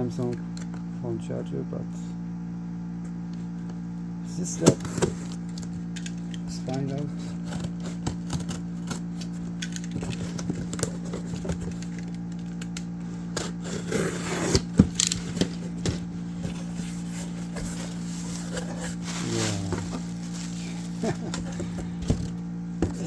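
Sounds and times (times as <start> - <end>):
steady low hum: 0.0 - 23.0
cardboard rustling: 4.5 - 23.0.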